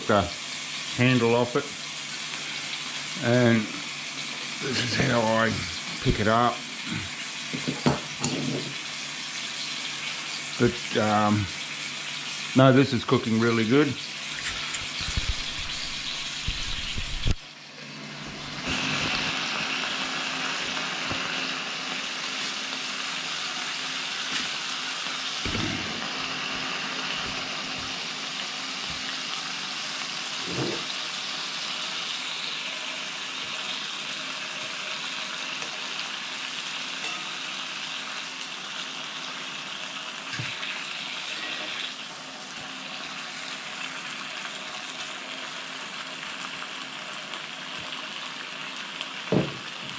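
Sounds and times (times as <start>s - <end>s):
bacon sizzling in a frying pan: 0.0s - 49.9s.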